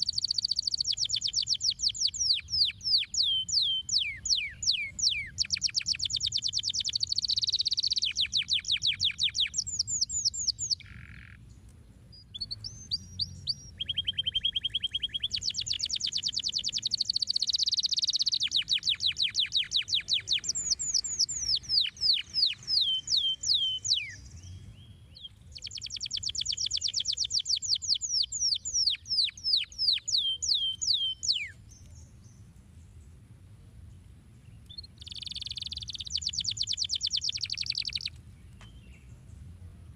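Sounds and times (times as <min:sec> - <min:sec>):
canary singing trills: 0:00.0 - 0:32.5, 0:34.4 - 0:39.1.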